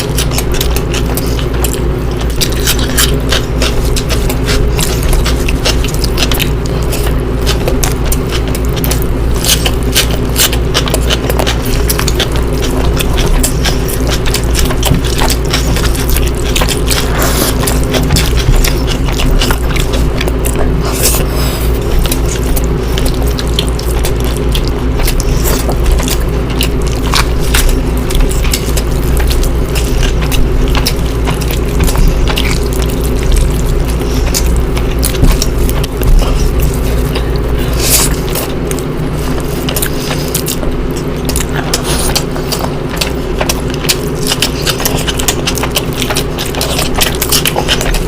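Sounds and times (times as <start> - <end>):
wet chewing and mouth smacking: 0.0 - 48.0.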